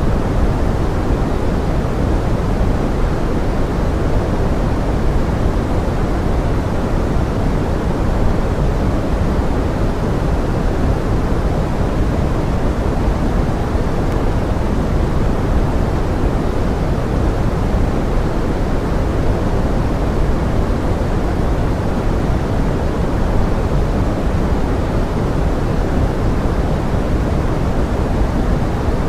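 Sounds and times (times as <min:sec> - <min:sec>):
pink noise: 0:00.0 - 0:29.0.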